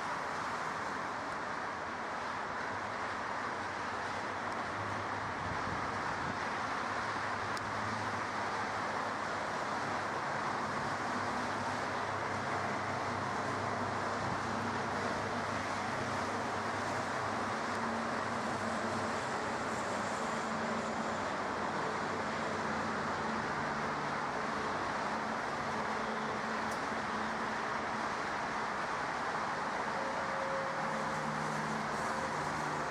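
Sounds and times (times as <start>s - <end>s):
distant engine hiss and hum: 3.6s - 32.9s.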